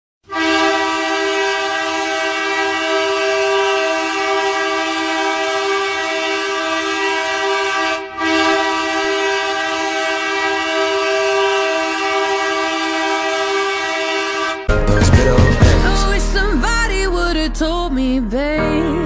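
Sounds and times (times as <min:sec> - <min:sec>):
goal horn blowing: 0:00.2 - 0:16.4.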